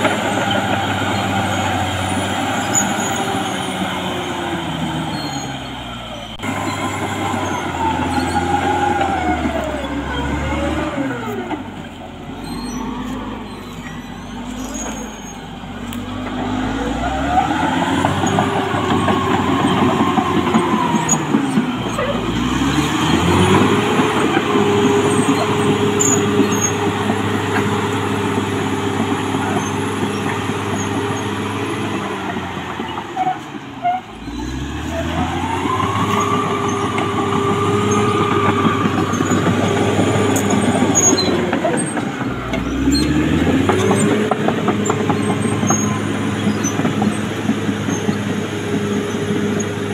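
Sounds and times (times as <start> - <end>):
bulldozer diesel engine under load: 0.0 - 49.9.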